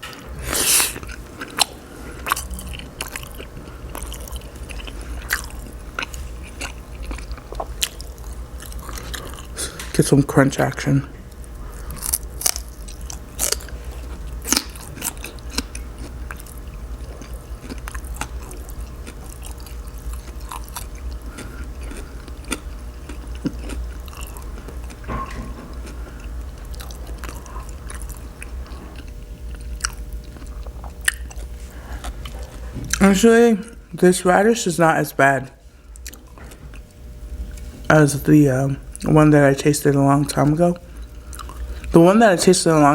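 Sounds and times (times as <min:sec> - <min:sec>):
chewing crisp radish crunches: 0:00.0 - 0:10.0, 0:10.6 - 0:33.8, 0:35.9 - 0:37.8, 0:40.2 - 0:42.0.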